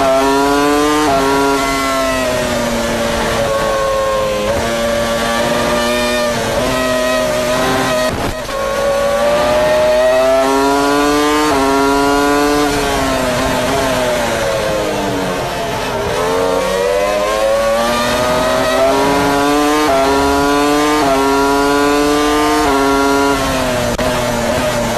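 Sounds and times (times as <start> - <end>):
racing car engine at full throttle: 0.0 - 24.9.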